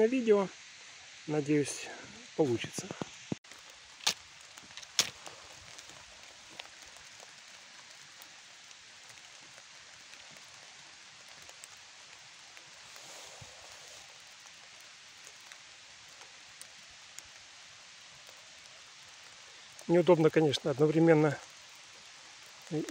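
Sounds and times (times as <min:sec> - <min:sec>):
light rain patter: 0:00.0 - 0:22.9.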